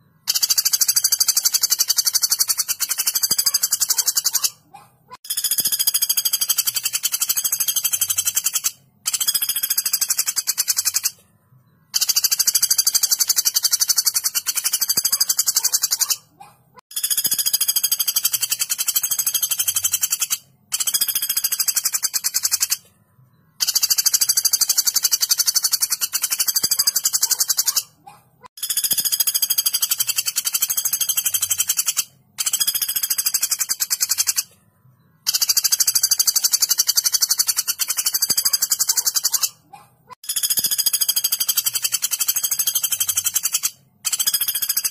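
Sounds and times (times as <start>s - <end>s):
woodpecker rattling calls: 0.2s - 11.2s, 11.9s - 22.9s, 23.6s - 34.5s, 35.2s - 44.9s.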